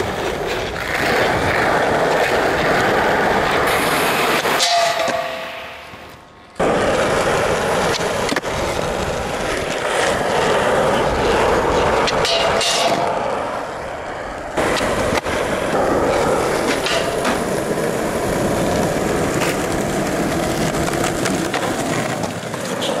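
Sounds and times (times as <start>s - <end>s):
skateboard clacking on ground: 0.0s - 23.0s
skateboard wheels rolling: 0.0s - 23.0s.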